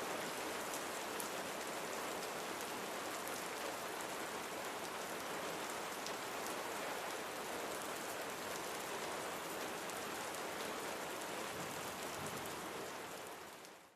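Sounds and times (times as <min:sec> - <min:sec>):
steady rain falling: 0:00.0 - 0:13.9.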